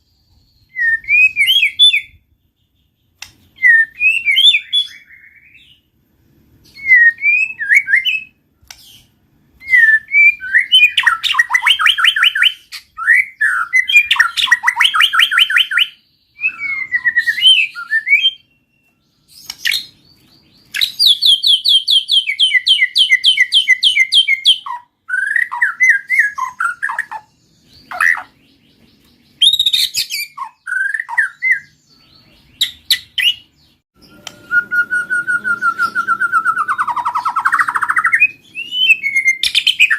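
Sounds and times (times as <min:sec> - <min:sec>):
bird singing whistled phrases: 0:00.0 - 0:02.2, 0:03.5 - 0:05.9, 0:06.6 - 0:28.5, 0:29.3 - 0:39.9
canary singing: 0:00.0 - 0:39.9.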